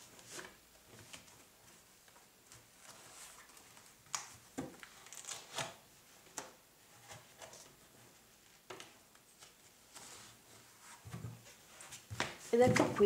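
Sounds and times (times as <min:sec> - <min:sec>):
rubbing and handling noise: 0:00.0 - 0:13.0.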